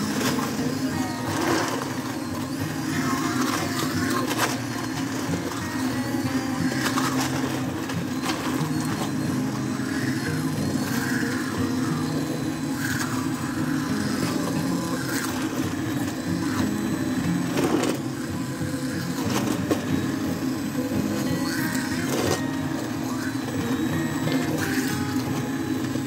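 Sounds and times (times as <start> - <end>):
immersion blender motor humming: 0.0 - 26.0.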